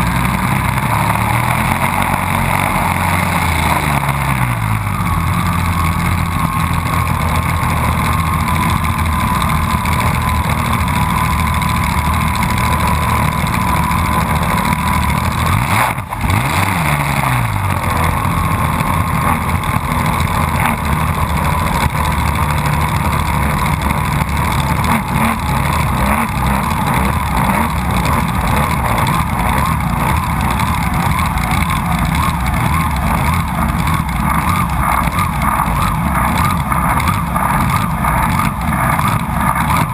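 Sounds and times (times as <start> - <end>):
race boat engine running hard: 0.0 - 39.9.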